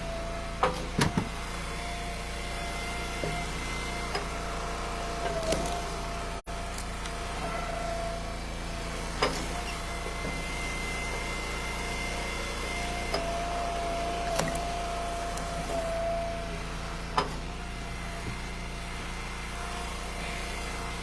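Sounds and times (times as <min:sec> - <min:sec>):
wood splitter engine running: 0:00.0 - 0:21.0.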